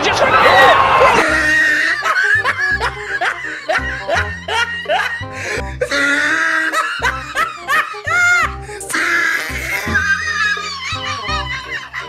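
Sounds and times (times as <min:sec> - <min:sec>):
laughter: 0:01.0 - 0:08.5, 0:09.7 - 0:12.0.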